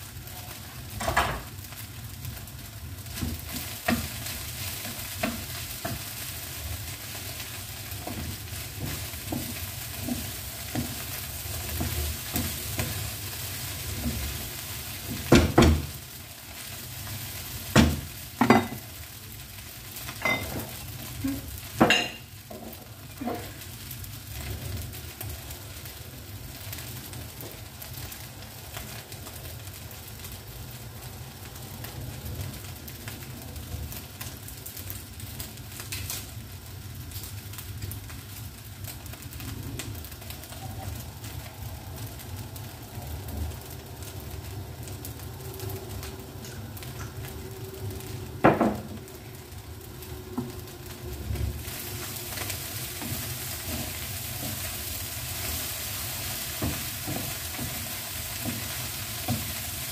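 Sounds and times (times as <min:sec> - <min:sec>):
rice sizzling in a frying pan: 0:00.0 - 0:59.9.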